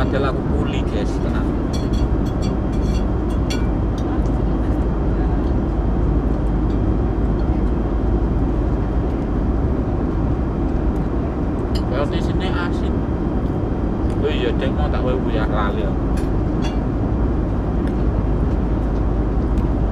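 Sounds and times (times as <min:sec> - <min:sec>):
airliner cabin engine rumble: 0:00.0 - 0:19.9.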